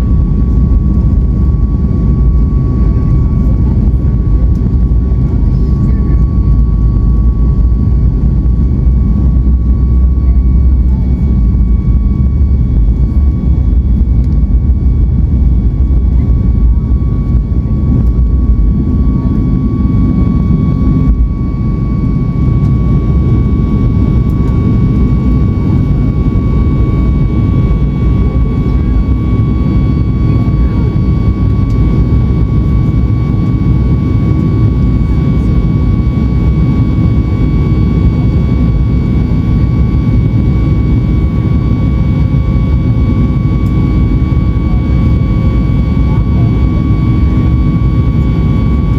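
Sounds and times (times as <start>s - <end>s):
jet engine rumble in cabin: 0.0s - 48.9s.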